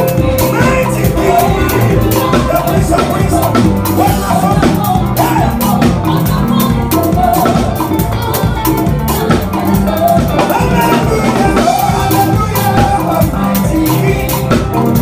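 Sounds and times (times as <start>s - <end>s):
bass line: 0.0s - 15.0s
live band music: 0.0s - 15.0s.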